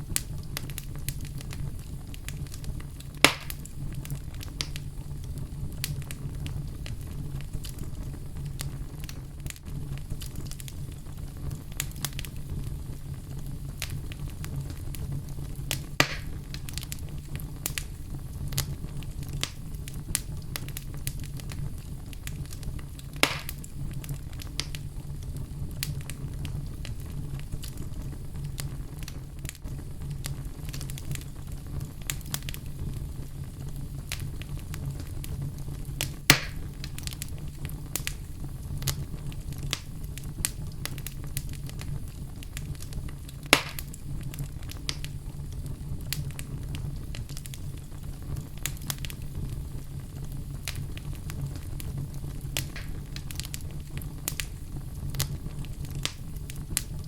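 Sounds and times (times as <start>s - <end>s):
fire flames rumbling: 0.0s - 57.0s
wood fire crackling and popping: 0.0s - 57.0s.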